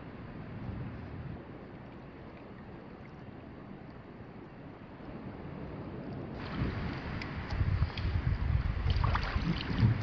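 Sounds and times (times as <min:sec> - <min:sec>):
wind: 0:00.0 - 0:10.0
gently moving shallow water: 0:00.3 - 0:10.0.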